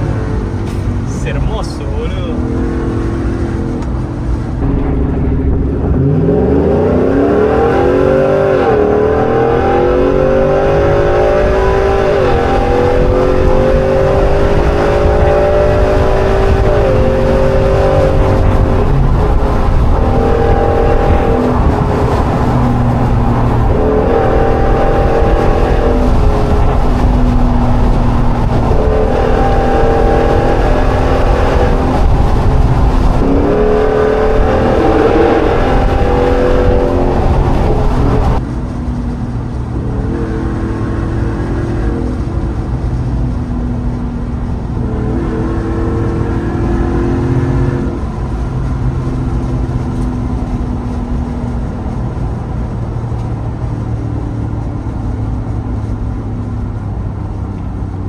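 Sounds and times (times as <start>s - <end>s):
truck engine accelerating: 0.0s - 58.0s.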